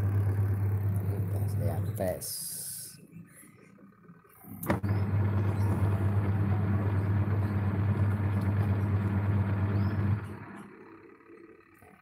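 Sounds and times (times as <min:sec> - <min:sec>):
washing machine motor hum: 0:00.0 - 0:02.8, 0:04.3 - 0:11.6.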